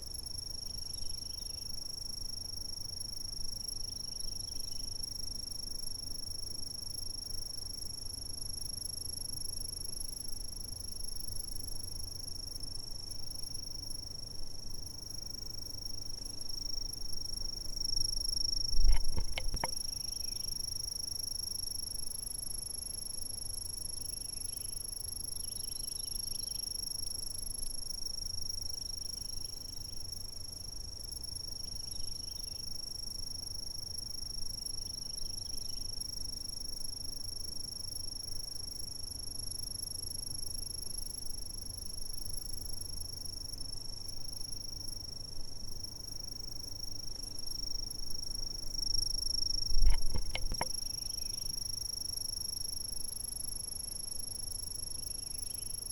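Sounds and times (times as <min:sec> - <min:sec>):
short insect chirps: 0:00.0 - 0:10.3, 0:13.2 - 0:39.0, 0:39.6 - 0:55.9
insects trilling: 0:00.0 - 0:14.1, 0:14.7 - 0:55.9.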